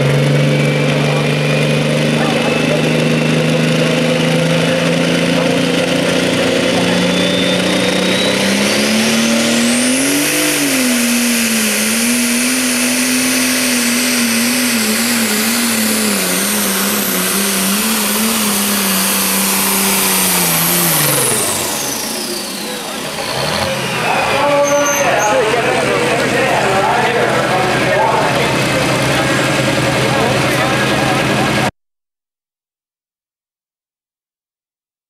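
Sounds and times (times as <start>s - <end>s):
tractor diesel engine under load: 0.0s - 31.7s
turbo whine: 0.0s - 31.7s.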